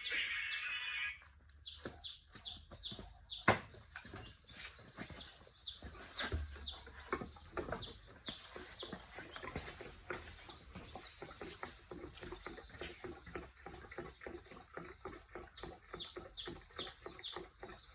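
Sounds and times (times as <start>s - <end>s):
small bird chirping: 0.0s - 3.5s, 4.1s - 17.9s.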